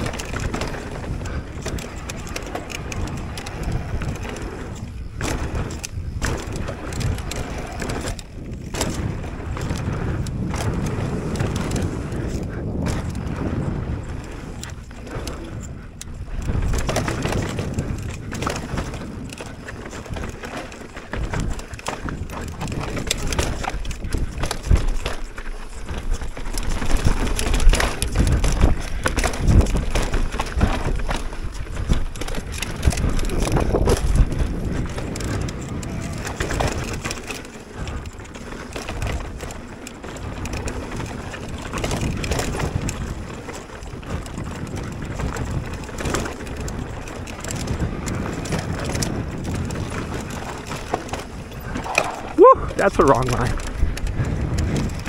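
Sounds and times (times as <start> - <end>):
bike rattling and knocking: 0.0 - 55.0
bike tyres crunching over dirt: 0.0 - 55.0.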